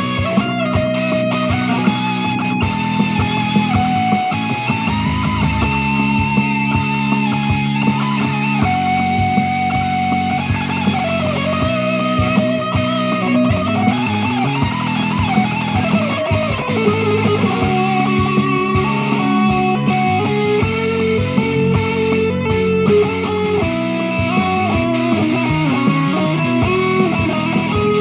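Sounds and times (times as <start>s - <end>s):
guitar improvising a melody: 0.0s - 28.0s.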